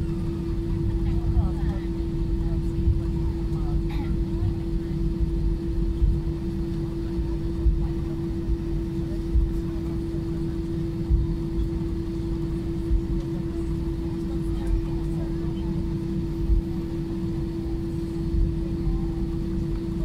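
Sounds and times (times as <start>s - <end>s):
aircraft engines humming: 0.0s - 20.0s.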